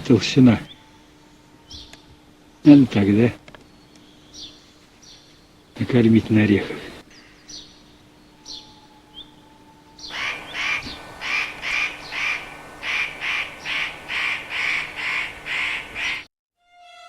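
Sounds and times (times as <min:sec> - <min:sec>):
bird calling: 0:00.0 - 0:16.3
faint bird chirps: 0:00.0 - 0:16.3.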